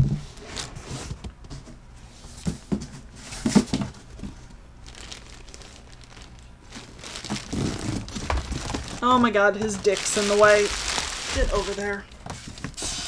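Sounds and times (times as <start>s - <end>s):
cardboard and plastic rustling: 0.0s - 13.0s.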